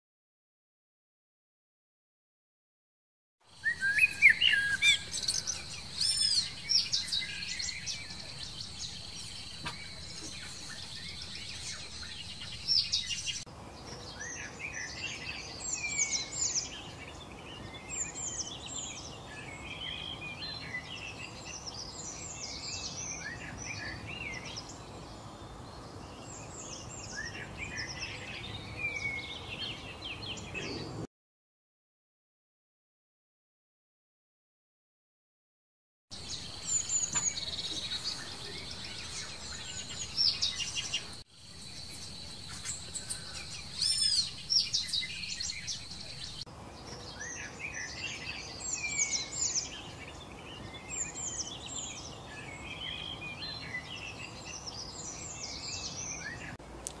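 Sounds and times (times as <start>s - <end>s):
small songbirds chirping: 3.4s - 31.1s, 36.1s - 57.0s
blackbird singing: 3.5s - 13.4s, 14.0s - 31.0s, 36.2s - 56.6s.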